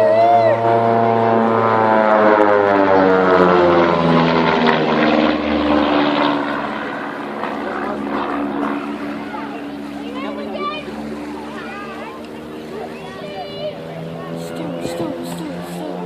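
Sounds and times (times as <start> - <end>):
propeller aircraft flying past: 0.0 - 16.0.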